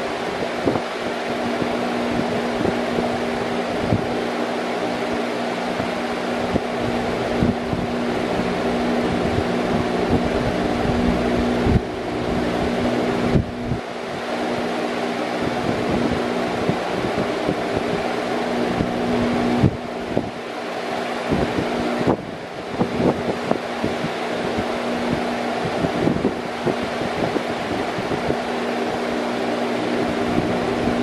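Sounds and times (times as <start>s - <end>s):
electric fan running: 0.0s - 31.0s.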